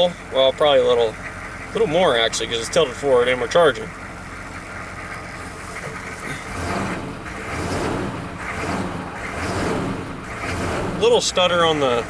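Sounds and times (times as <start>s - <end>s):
diesel engine idling and revving: 0.0s - 12.0s.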